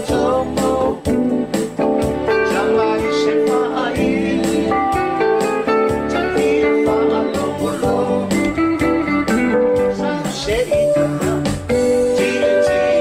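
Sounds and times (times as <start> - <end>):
live band with plucked guitars: 0.0 - 13.0.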